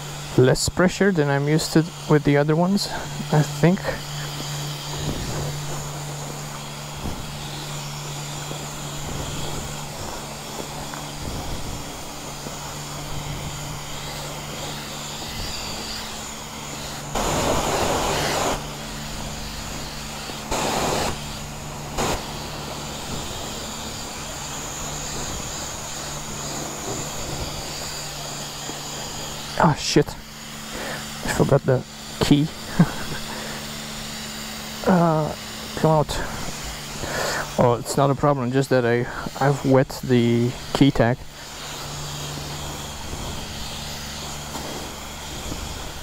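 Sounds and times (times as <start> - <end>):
bursts of rushing spray: 0.0 - 46.0
pressure washer pump hum: 0.0 - 46.0
spray wand hissing: 0.0 - 46.0.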